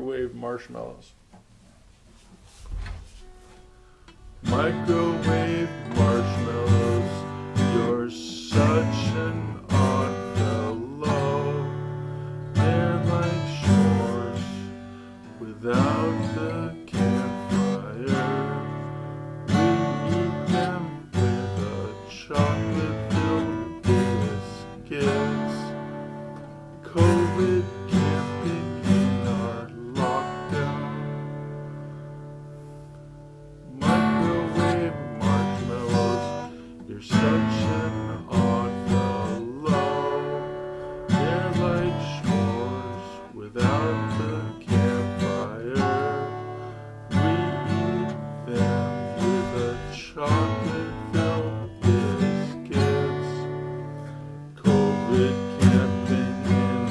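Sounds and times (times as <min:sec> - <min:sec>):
acoustic guitar playing: 0:00.0 - 0:56.9.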